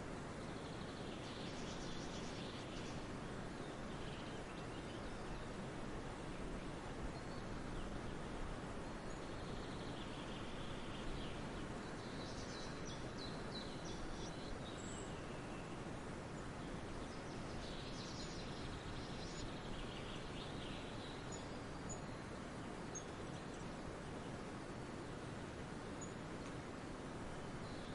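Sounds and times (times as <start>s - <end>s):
faint bird chirps and trills: 0.0s - 27.9s
steady background hiss: 0.0s - 27.9s.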